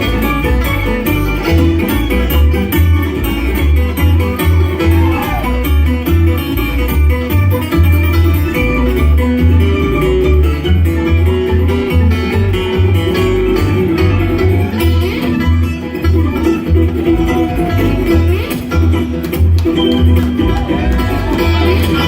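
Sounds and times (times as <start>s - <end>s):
banjo: 0.0s - 22.0s
bluegrass band playing: 0.0s - 22.0s
picked guitar: 0.0s - 22.0s
pulsing bass line: 0.0s - 22.0s.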